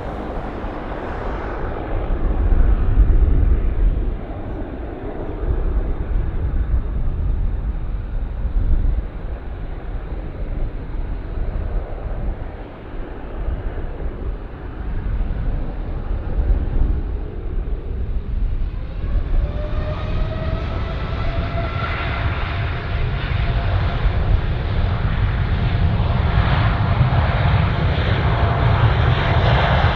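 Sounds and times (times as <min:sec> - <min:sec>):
engine whine: 0:00.0 - 0:29.9
jet engines rumbling: 0:00.0 - 0:29.9.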